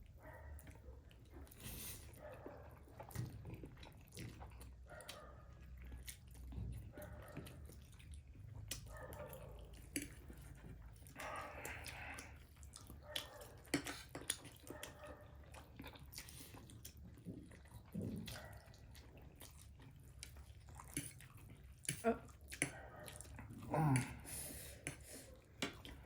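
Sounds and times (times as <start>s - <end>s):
slurping and chewing noodles: 0.0s - 26.0s.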